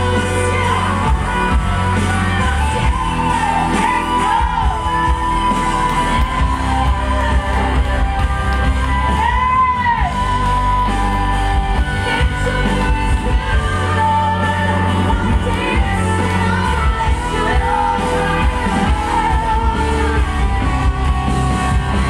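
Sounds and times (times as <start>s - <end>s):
band accompaniment with bass: 0.0s - 22.0s.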